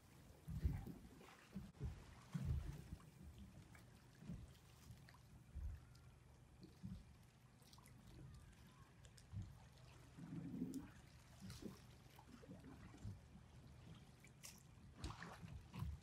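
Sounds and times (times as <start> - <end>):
quiet water hiss: 0.0 - 16.0.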